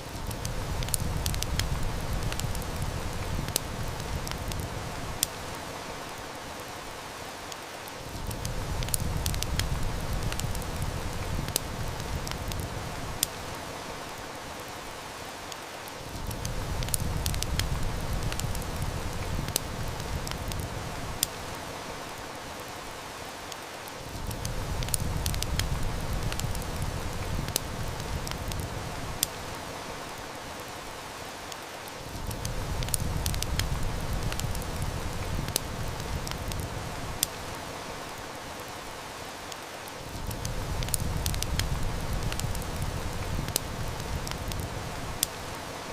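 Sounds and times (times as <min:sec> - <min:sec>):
heavy rain hiss: 0:00.0 - 0:45.9
wood fire crackling: 0:00.0 - 0:45.9.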